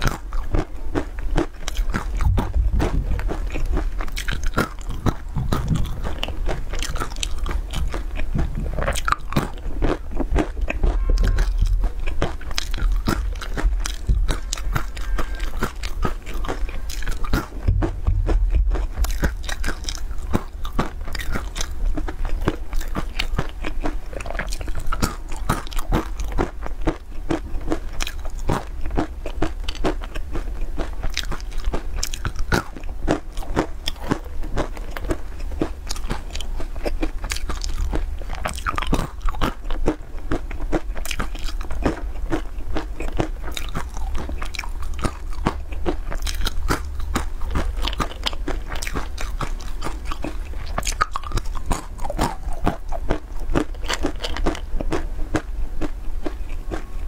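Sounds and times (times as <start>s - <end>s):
crunching and chewing nuts: 0.0s - 57.0s
low steady hum: 0.0s - 57.0s.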